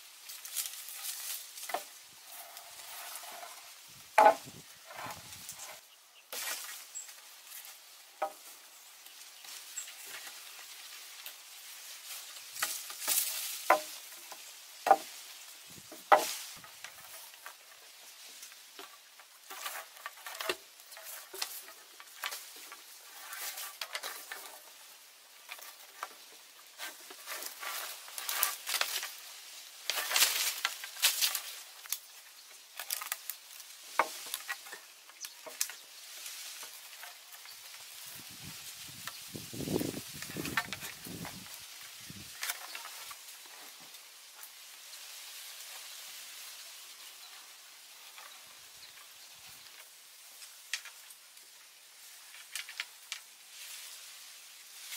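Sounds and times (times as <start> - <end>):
vine rustling and scraping on poles: 0.0 - 54.9.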